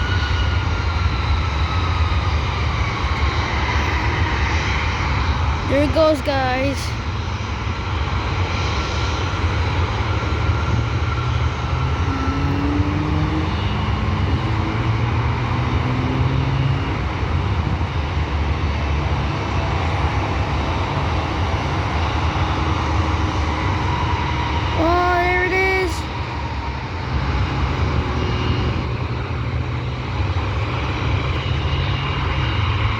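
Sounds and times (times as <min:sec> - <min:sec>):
jet engines rumbling at takeoff: 0:00.0 - 0:32.9.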